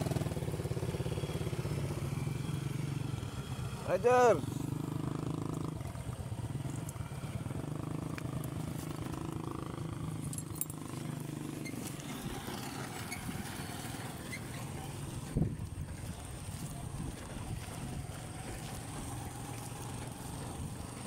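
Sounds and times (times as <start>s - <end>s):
small motorcycle engines running: 0.0s - 21.0s.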